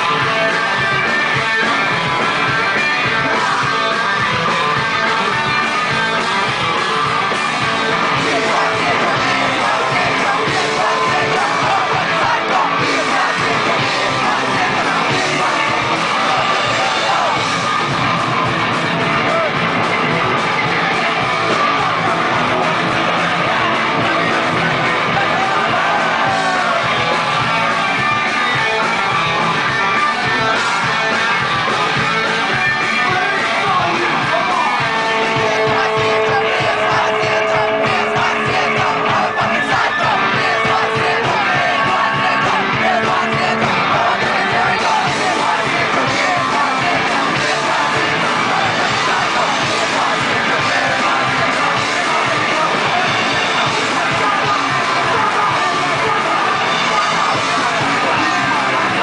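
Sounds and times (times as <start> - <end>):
punk rock band playing: 0.0 - 59.0
singer shouting into microphone: 0.0 - 59.0.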